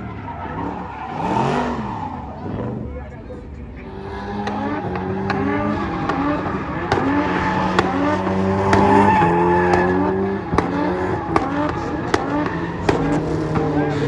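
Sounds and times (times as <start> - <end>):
car engine running loudly: 0.0 - 14.0
exhaust cracks: 0.0 - 14.0.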